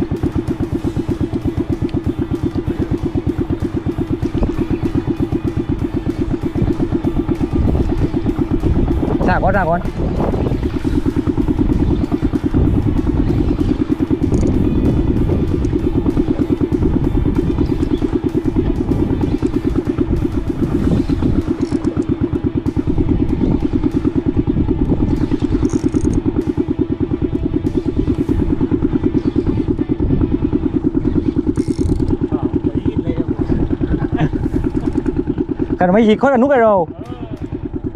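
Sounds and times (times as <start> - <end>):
boat engine throbbing: 0.0 - 37.9.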